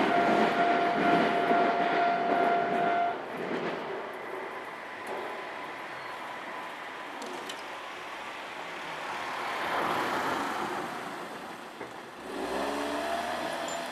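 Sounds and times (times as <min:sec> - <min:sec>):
road vehicles passing: 0:00.0 - 0:13.9.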